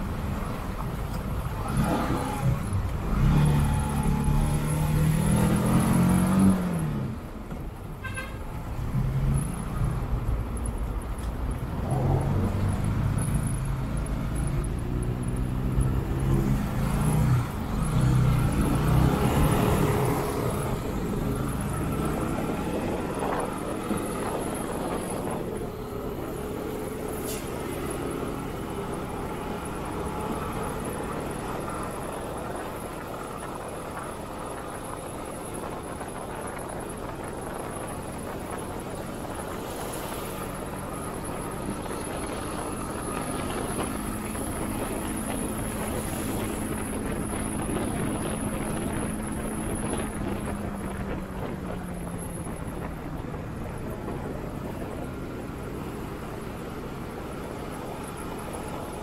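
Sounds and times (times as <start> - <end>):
road and wind noise: 0.0 - 59.0.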